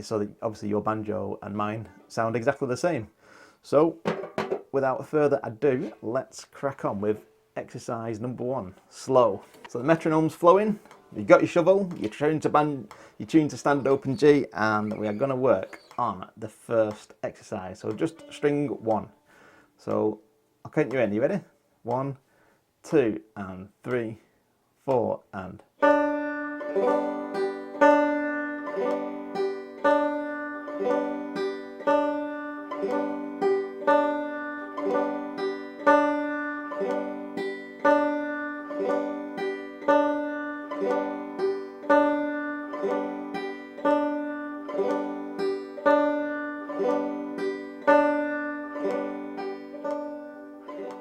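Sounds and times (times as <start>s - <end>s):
banjo played clawhammer style: 3.7s - 7.3s, 8.2s - 22.0s, 25.8s - 51.0s.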